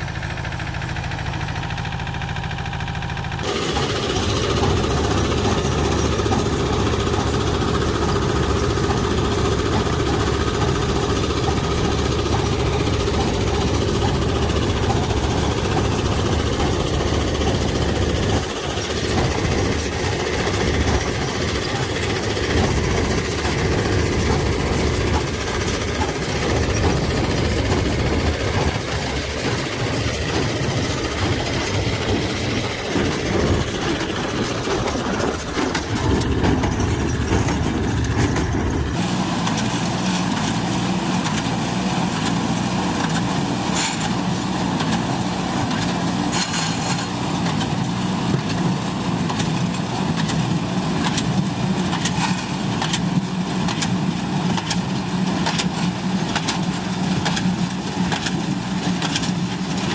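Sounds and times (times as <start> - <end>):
hay baler machinery: 0.0 - 59.9
tractor engine running: 0.0 - 59.9.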